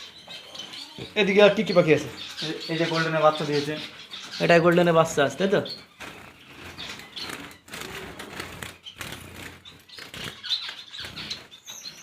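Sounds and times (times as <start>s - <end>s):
birds rustling: 0.0s - 12.0s
pet birds chirping: 0.0s - 12.0s.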